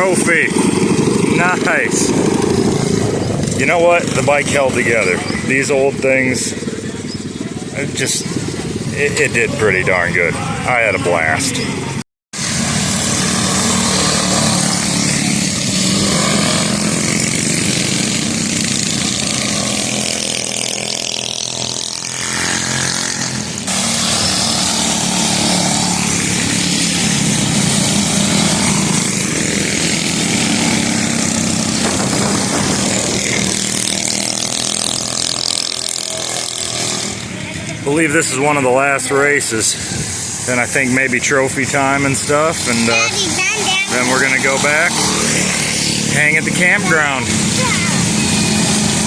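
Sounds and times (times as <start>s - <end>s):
mini bike engines racing: 0.0s - 49.0s.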